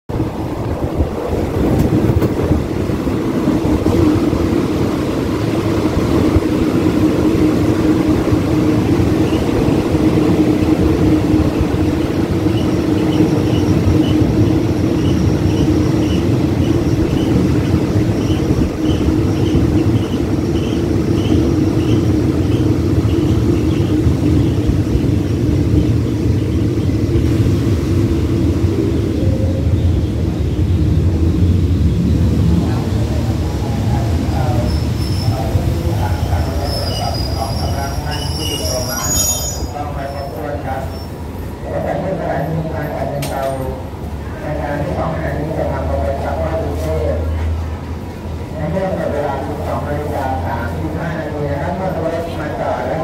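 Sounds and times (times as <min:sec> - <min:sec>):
train wheels rumbling on rails: 0:00.1 - 0:53.0.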